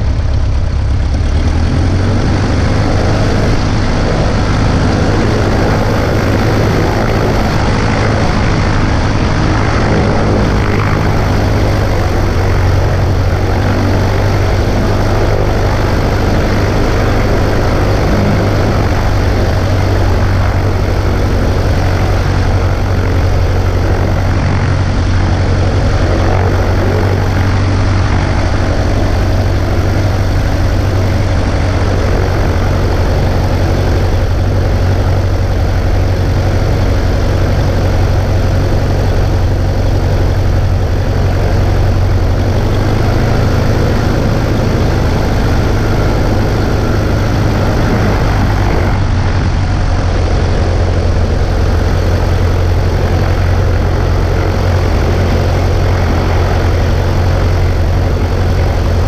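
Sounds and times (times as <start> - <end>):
airplane engine droning in cabin: 0.0 - 59.0.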